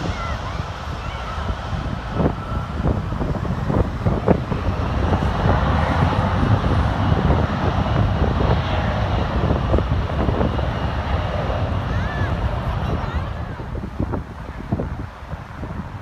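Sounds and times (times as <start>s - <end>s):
jet airliner roar: 0.0s - 16.0s
road traffic: 0.0s - 16.0s
wind on microphone: 0.0s - 16.0s.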